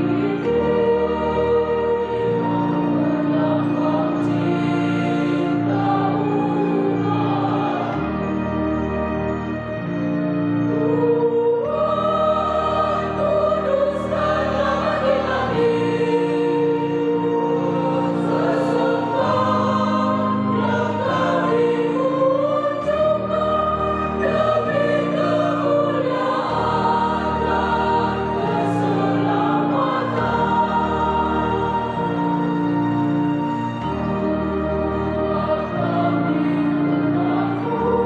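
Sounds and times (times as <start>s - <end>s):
church choir singing a hymn: 0.0s - 38.0s.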